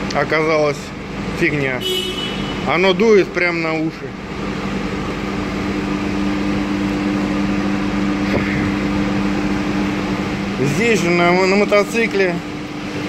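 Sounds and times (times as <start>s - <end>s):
ventilation fans humming: 0.0s - 13.0s.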